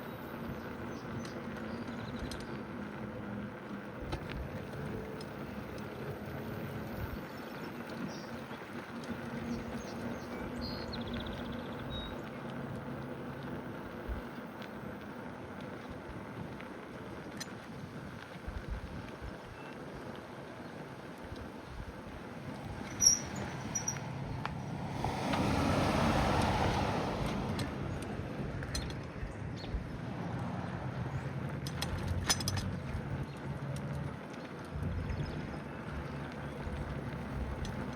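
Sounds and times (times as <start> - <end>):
bicycle tyre rumble: 0.0 - 37.9.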